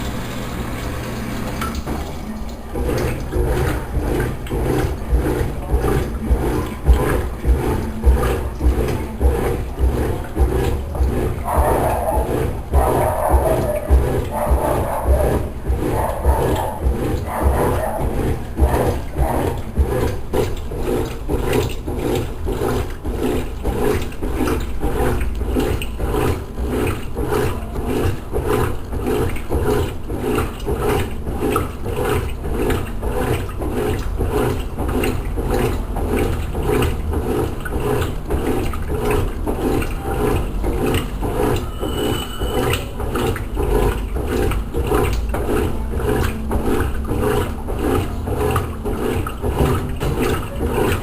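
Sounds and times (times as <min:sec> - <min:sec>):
washing machine washing: 0:00.0 - 0:51.0
water sloshing: 0:00.7 - 0:51.0.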